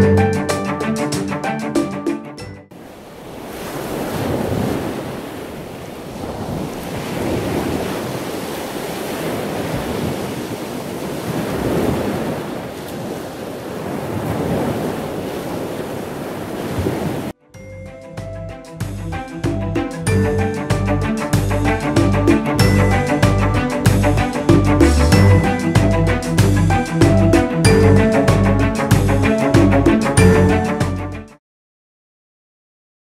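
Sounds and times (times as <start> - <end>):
ocean waves washing: 2.7 - 17.4, 18.8 - 31.2.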